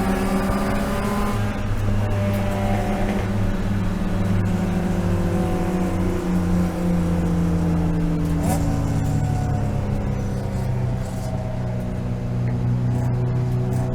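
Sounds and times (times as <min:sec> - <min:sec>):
race car engine running hard: 0:00.0 - 0:13.9.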